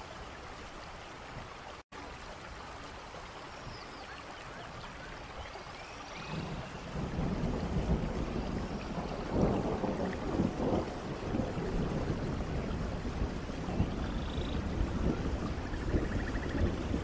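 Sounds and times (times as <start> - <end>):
low rumbling nature ambience: 0.0 - 17.0.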